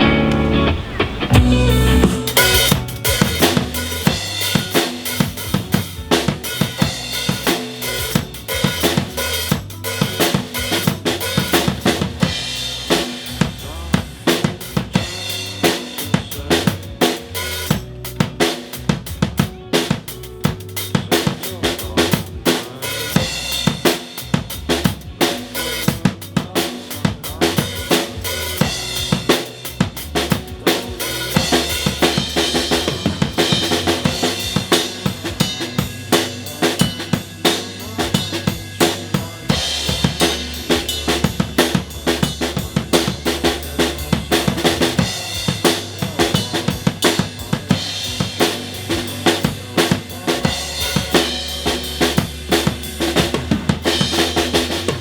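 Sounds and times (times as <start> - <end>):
recorded backing music: 0.0 - 55.0
rock drum beat: 0.0 - 55.0.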